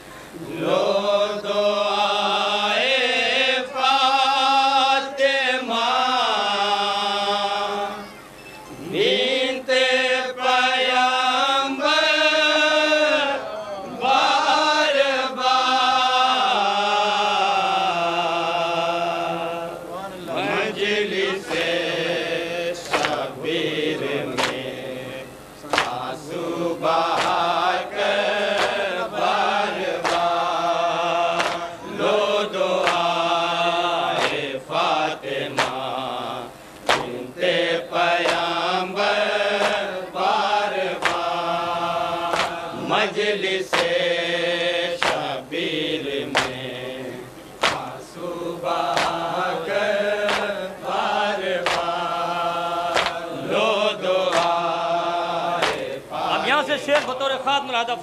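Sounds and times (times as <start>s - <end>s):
voices chanting a lament: 0.0s - 58.0s.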